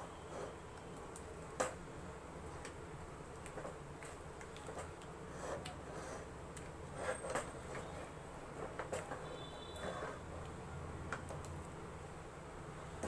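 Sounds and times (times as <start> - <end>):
spatula stirring sticky halva: 0.0 - 12.4.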